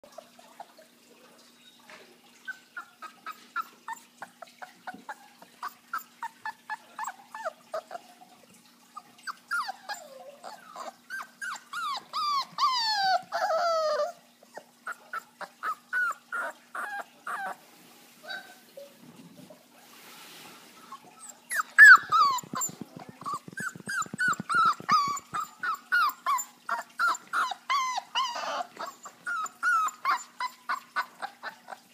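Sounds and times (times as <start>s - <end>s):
puppy yipping and whining: 2.4s - 8.1s, 9.0s - 17.6s, 18.2s - 19.0s, 20.9s - 31.9s.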